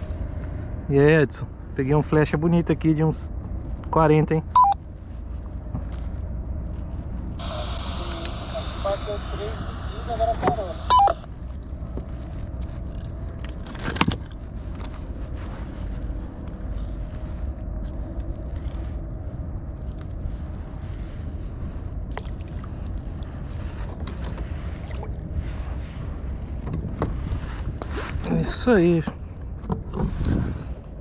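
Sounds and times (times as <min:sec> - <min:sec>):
wind rumble on microphone: 0:04.8 - 0:31.0.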